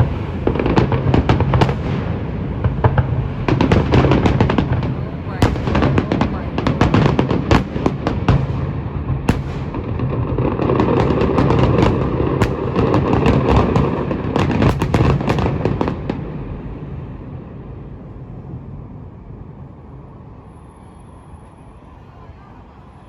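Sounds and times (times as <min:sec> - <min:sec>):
fireworks bangs and crackles: 0:00.0 - 0:19.6.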